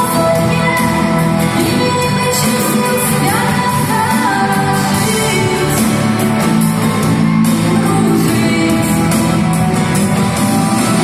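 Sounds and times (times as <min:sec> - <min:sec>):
pop song sung over backing track: 0:00.0 - 0:11.0.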